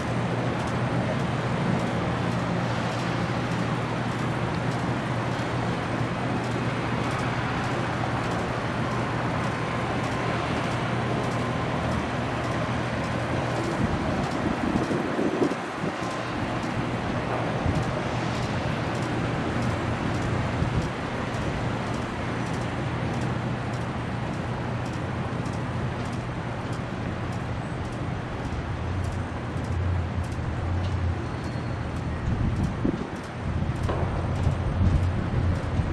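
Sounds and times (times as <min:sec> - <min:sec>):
low engine hum: 0:00.0 - 0:35.9
road traffic: 0:00.0 - 0:35.9.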